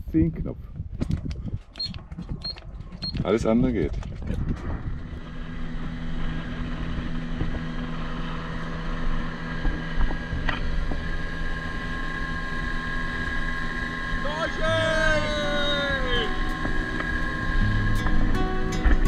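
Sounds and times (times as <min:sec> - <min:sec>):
wind: 0:00.0 - 0:19.0
outboard motor running: 0:01.5 - 0:19.0.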